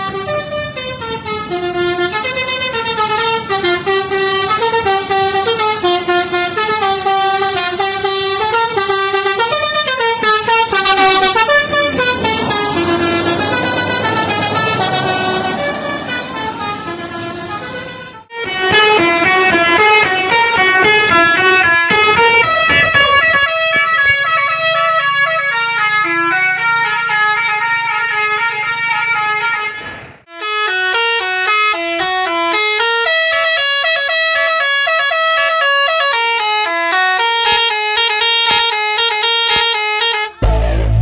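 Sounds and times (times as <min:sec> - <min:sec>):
musical air horn melody: 0:00.0 - 0:41.0.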